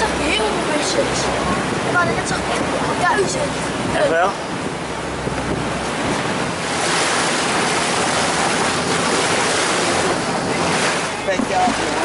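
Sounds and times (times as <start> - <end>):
boat engine running: 0.0 - 12.0
water rushing past hull: 0.0 - 12.0
wind buffeting microphone: 0.0 - 12.0.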